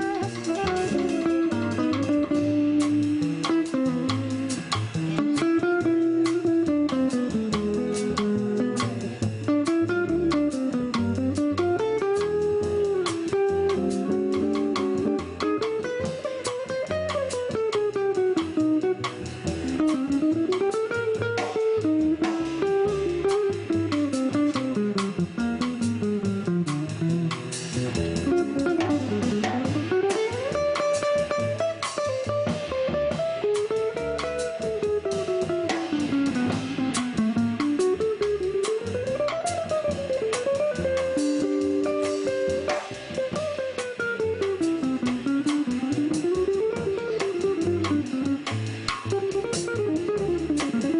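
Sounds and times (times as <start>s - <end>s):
double bass: 0.0s - 50.9s
drum kit: 0.0s - 50.9s
guitar: 0.0s - 50.9s.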